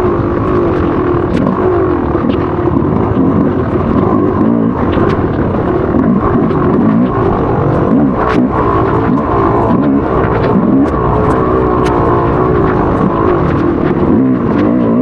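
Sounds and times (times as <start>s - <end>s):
motocross bike engine revving: 0.0s - 15.0s
sharp ticks: 0.0s - 15.0s
steady rush of noise: 0.0s - 15.0s.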